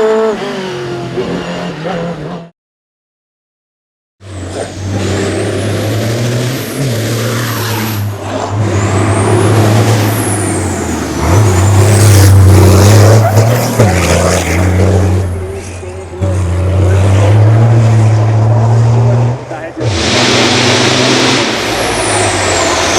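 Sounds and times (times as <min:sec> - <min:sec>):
race car engine high revs: 0:04.3 - 0:22.9.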